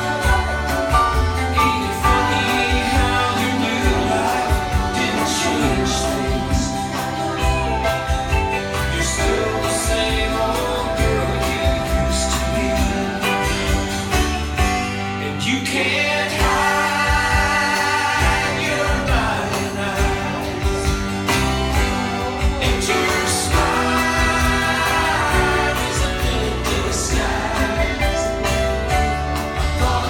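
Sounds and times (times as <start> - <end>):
music with steady beat and bass: 0.0 - 30.0
people singing: 0.0 - 30.0.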